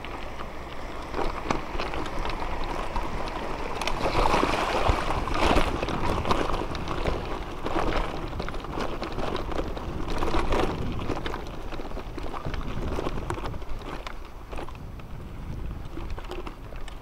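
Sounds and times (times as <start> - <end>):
bike rattling clicks: 0.0 - 4.1, 4.9 - 17.0
bike tyres crunching on gravel: 0.0 - 17.0
steady low rumble: 0.0 - 17.0.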